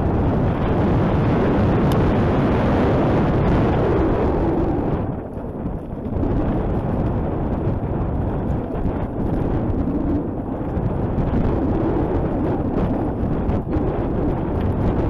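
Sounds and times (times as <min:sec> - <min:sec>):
bike rattling over rough ground: 0:00.0 - 0:15.0
wind rumble on microphone: 0:00.0 - 0:15.0.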